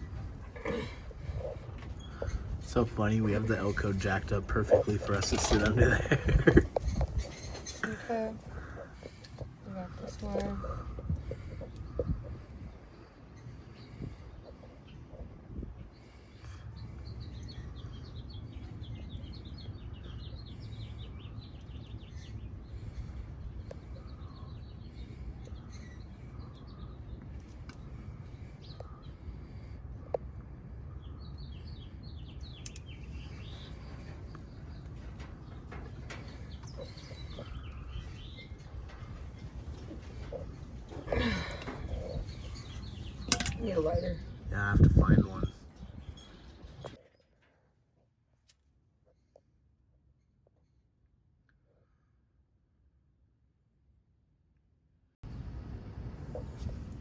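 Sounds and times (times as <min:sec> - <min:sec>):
small birds chirping: 0:00.0 - 0:47.6.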